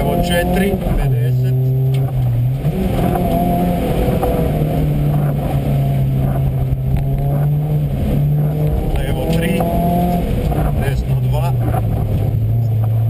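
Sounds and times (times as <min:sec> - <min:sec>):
car engine under throttle: 0:00.0 - 0:13.0.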